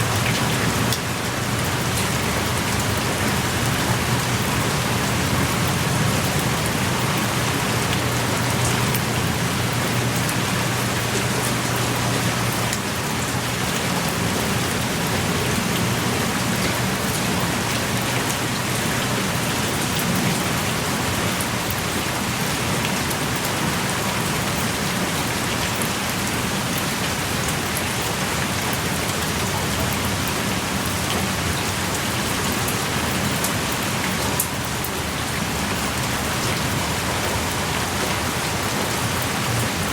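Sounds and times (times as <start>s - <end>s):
drops ticking and splashing: 0.0s - 39.9s
heavy rain pouring: 0.0s - 39.9s.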